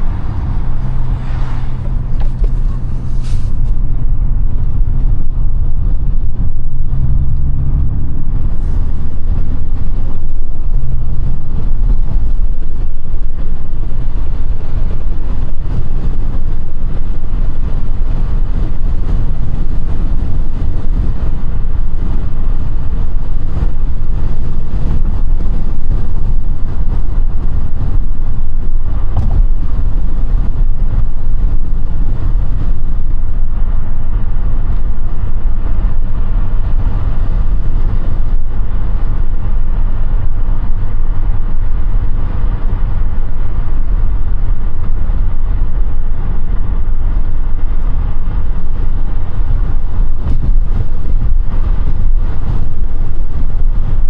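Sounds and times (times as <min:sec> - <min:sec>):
car engine drone: 0:00.0 - 0:54.0
road and wind noise: 0:00.0 - 0:54.0.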